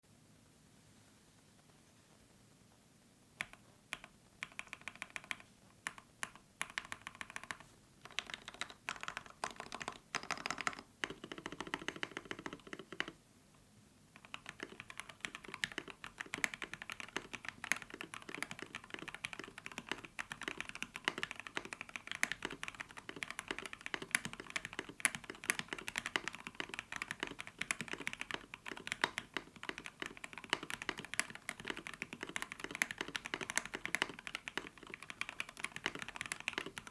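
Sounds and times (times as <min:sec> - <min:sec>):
mechanical keyboard typing: 0:03.4 - 0:13.2, 0:14.2 - 0:36.9.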